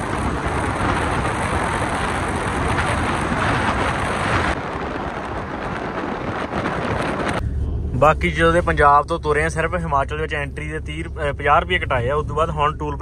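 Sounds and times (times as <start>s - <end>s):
car tyre noise in tunnel: 0.0s - 11.9s.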